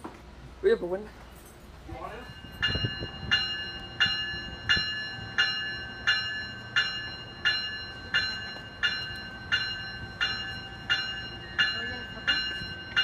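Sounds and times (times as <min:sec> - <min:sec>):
low rumble of train rolling: 0:00.0 - 0:13.0
locomotive bell ringing: 0:01.3 - 0:13.0.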